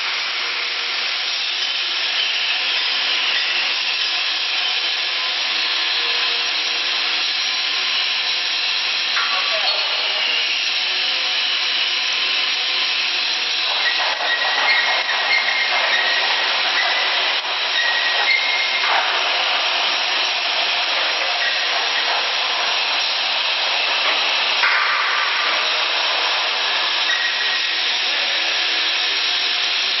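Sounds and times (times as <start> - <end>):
brick making machine whirring: 0.0 - 30.0.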